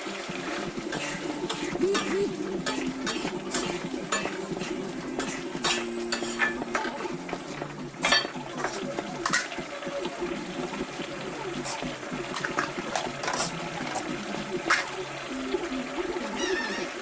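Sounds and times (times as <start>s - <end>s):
metal utensil scraping a pan: 0.4s - 15.0s.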